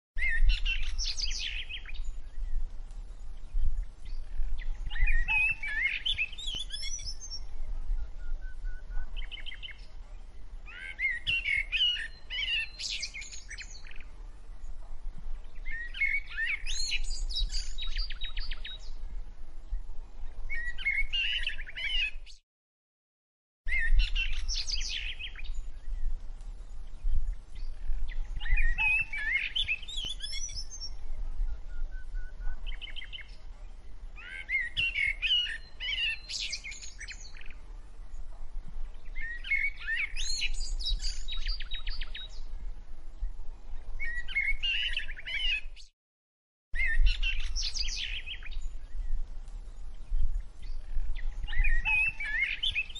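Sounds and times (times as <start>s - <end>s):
songbirds chirping: 0.2s - 22.4s, 23.7s - 45.9s, 46.8s - 52.9s.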